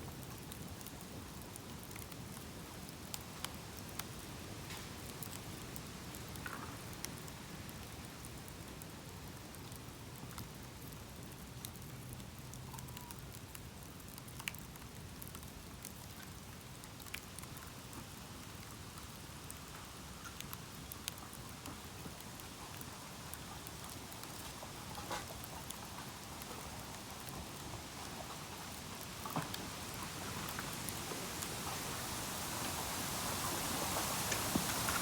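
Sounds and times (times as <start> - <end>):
bamboo bonfire crackling and popping: 0.0 - 35.0.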